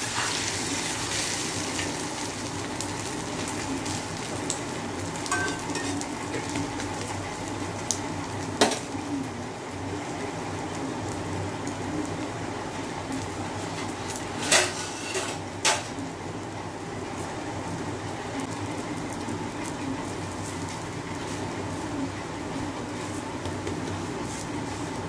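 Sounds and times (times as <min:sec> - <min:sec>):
omelette sizzling on griddle: 0:00.0 - 0:25.0.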